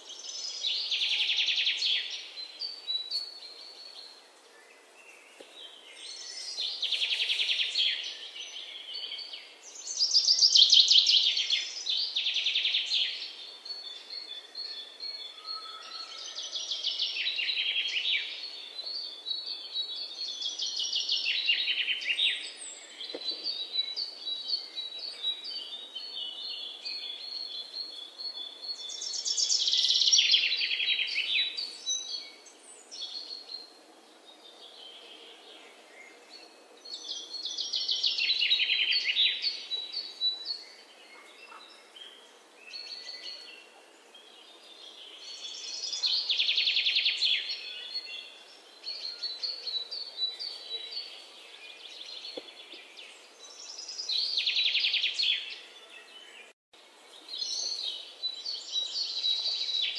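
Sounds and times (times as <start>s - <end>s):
small birds chirping in trills: 0.0s - 59.9s.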